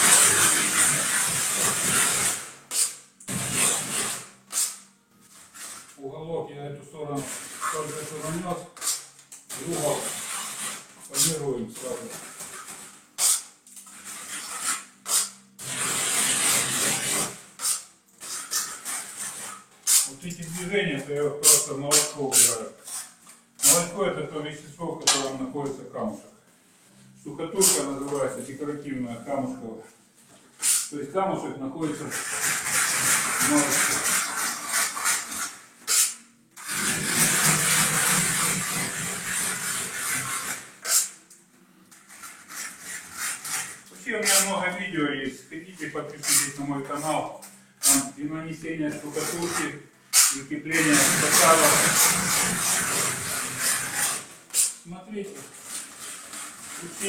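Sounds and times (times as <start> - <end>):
trowel scraping plaster: 0.0 - 6.0, 7.1 - 24.2, 27.5 - 29.6, 30.6 - 31.0, 31.8 - 41.3, 41.9 - 57.0.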